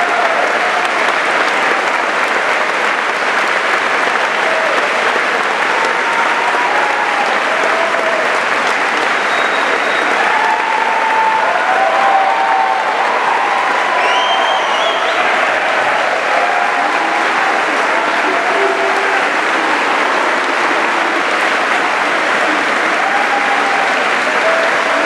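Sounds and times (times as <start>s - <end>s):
audience applauding: 0.0s - 25.0s
voices over clapping: 0.0s - 25.0s.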